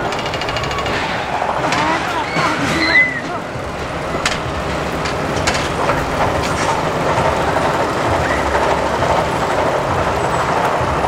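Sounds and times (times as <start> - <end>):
roller coaster rumbling on track: 0.0 - 11.0
sharp track clacks: 0.0 - 11.0.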